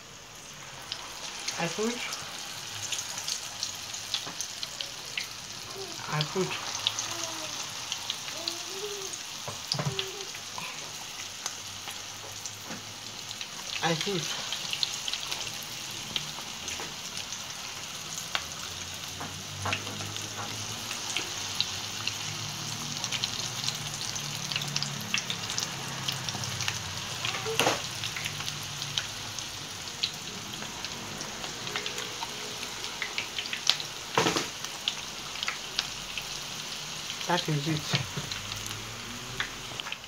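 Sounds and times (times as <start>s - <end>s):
dough deep-frying in oil sizzling: 0.0s - 40.0s.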